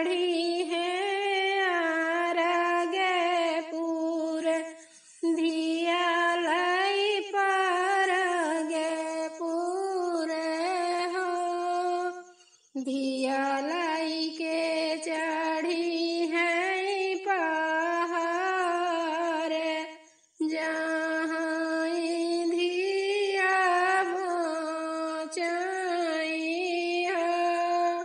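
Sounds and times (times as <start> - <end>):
woman singing folk song: 0.0 - 28.0.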